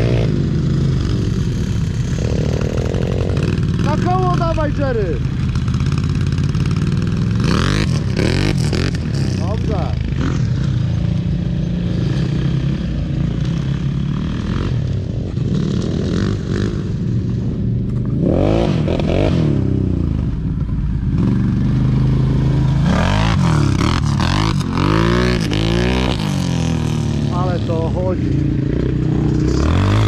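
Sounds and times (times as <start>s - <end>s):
off-road engines revving: 0.0s - 30.0s.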